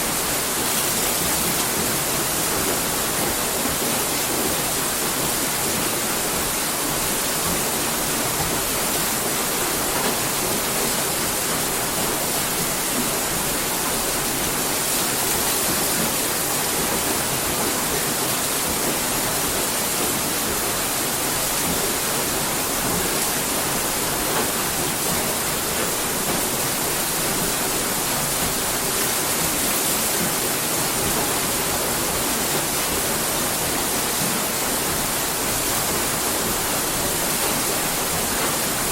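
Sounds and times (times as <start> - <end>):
water rushing over mill wheel: 0.0 - 38.9.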